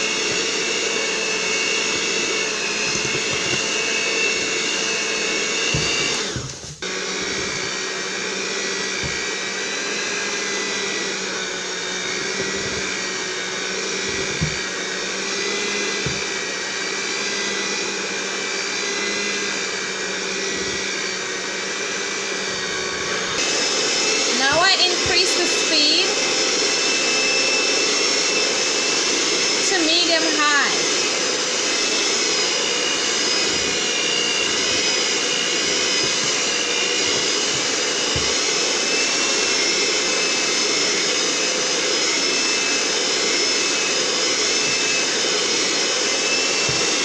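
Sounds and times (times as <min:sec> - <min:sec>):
electric mixer motor running: 0:00.0 - 0:47.0.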